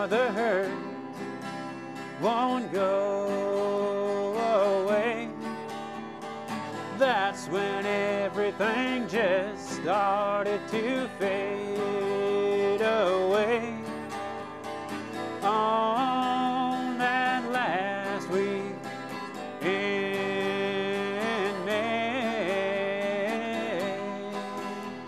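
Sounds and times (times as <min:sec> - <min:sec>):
acoustic guitars strummed: 0:00.0 - 0:25.0.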